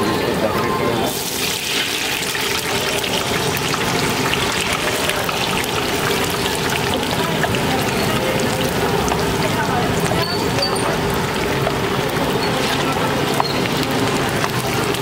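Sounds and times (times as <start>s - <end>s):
food deep-frying in oil: 1.0s - 15.0s
skimmer stirring through oil: 1.1s - 15.0s.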